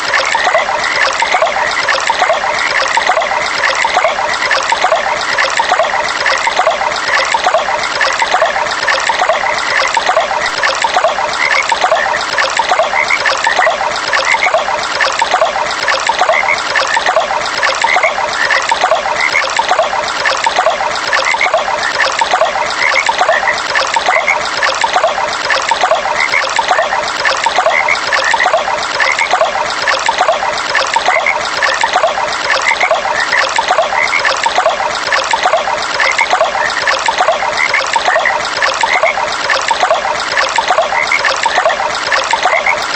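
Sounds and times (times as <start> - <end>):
frogs calling: 0.0 - 42.8
water trickling in stream: 0.0 - 42.9.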